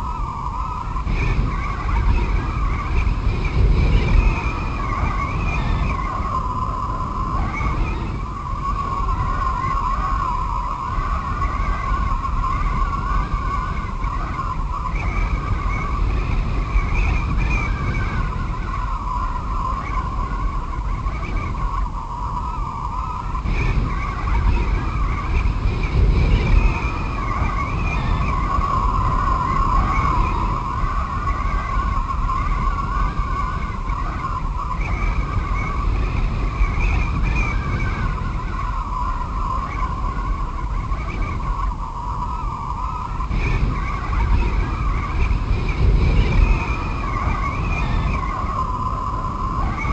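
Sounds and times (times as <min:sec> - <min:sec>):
wind howling: 0:00.0 - 0:49.9.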